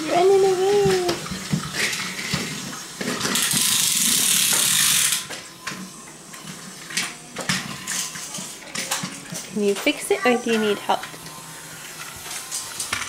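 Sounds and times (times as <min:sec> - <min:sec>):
toy train motor whirring and clicking: 0:00.0 - 0:13.0.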